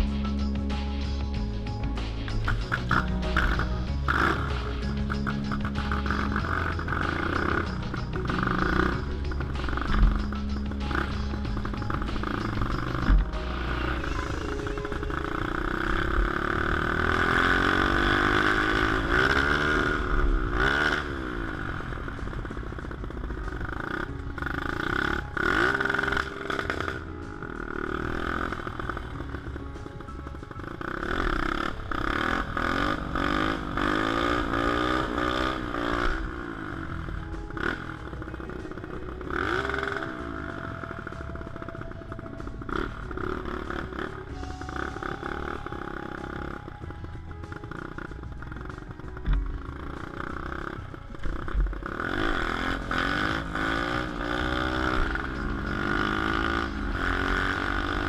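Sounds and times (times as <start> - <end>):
minibike engine revving: 0.0 - 58.0.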